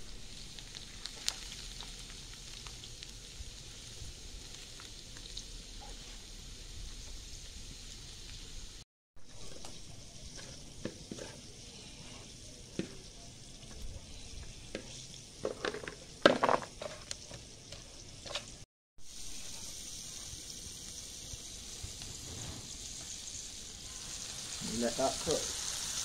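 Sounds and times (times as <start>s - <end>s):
oil sizzling in frying pan: 0.0s - 26.0s.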